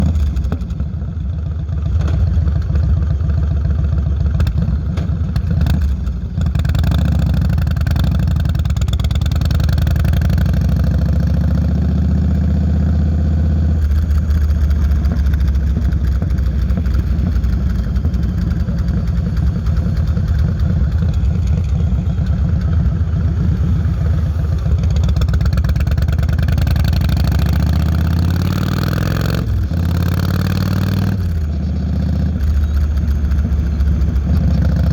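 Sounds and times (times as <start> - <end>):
motorcycle engine cruising: 0.0 - 34.9.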